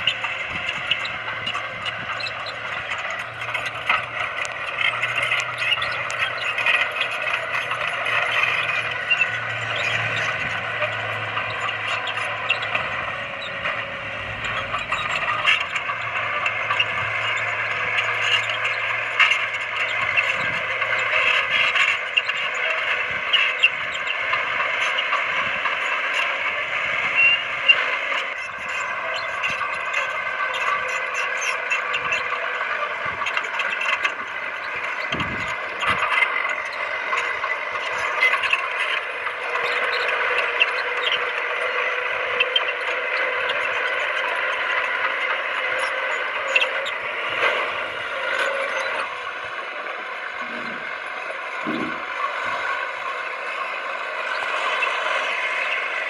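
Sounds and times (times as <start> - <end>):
bulldozer engine running: 0.0 - 56.0
track squeaks: 0.0 - 56.0.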